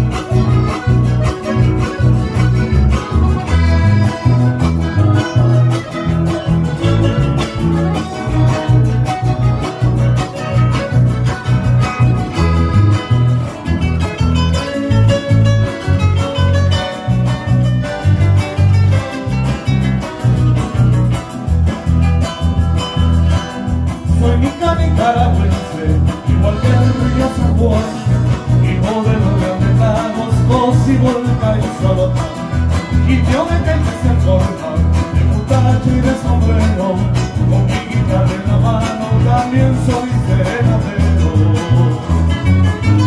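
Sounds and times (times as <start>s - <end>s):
bass plucking bouncing rhythm: 0.0s - 43.0s
latin dance band playing: 0.0s - 43.0s.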